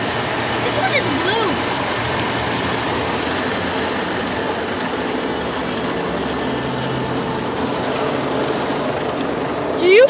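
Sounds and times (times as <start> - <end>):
car wash brushes scrubbing: 0.0 - 10.0
low machine hum: 0.0 - 10.0.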